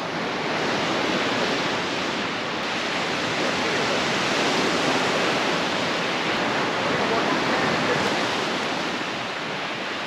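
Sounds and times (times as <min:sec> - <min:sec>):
surf breaking on beach: 0:00.0 - 0:10.0.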